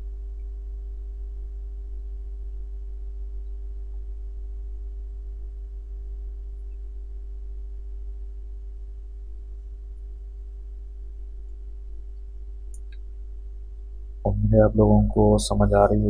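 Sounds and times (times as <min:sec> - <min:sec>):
faint steady tone: 0:00.0 - 0:16.0
low electrical hum: 0:00.0 - 0:16.0.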